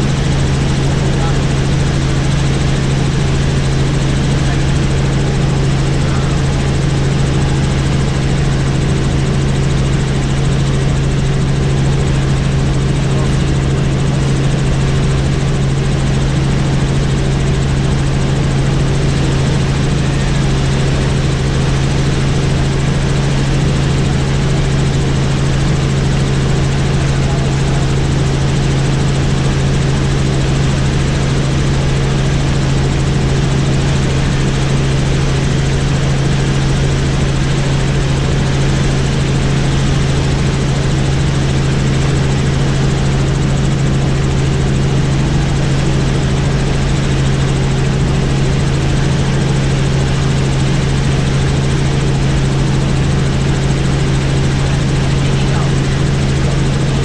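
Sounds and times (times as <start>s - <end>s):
helicopter engine and rotors: 0.0s - 57.0s.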